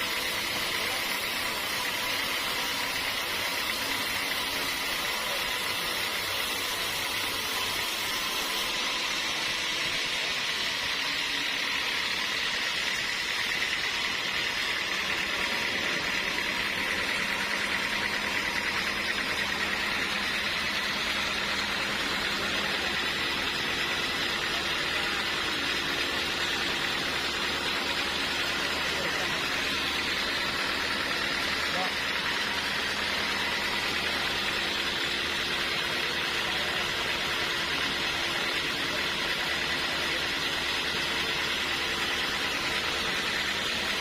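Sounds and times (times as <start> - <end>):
sawmill machinery hum and hiss: 0.0 - 44.0.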